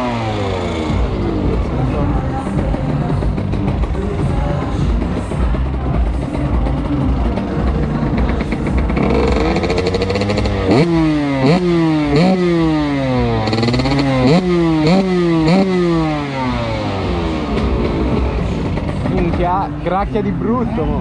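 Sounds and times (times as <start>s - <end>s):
two-stroke engine revving: 0.0s - 20.8s.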